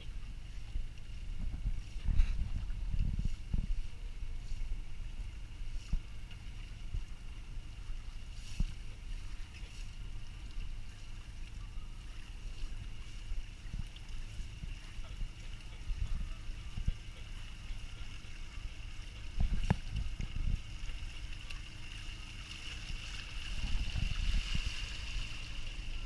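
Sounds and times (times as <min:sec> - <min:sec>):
boat engine idling: 0:00.0 - 0:26.0
faint high whine: 0:00.0 - 0:26.0.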